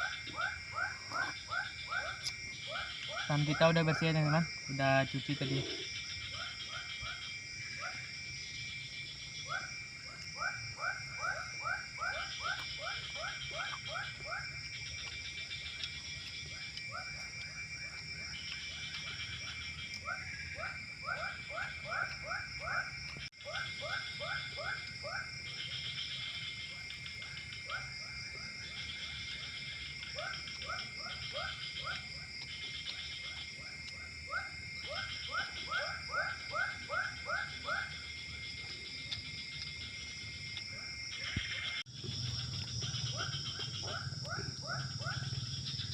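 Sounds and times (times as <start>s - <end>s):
chorus of frogs and insects: 0.0s - 45.9s.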